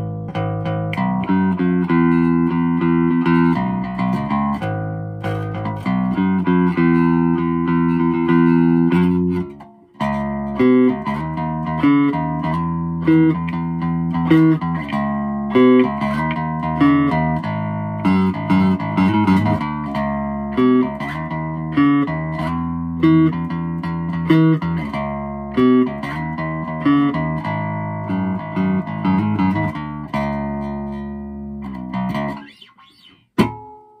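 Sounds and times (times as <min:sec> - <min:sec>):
electric bass guitar fingerstyle: 0:00.0 - 0:34.0.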